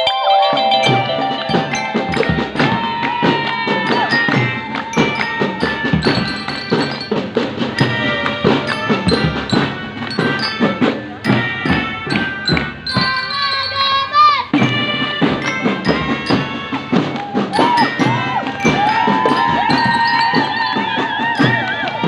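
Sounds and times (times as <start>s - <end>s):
marching band playing: 0.0s - 22.0s
drum strikes: 0.5s - 13.8s, 14.4s - 22.0s.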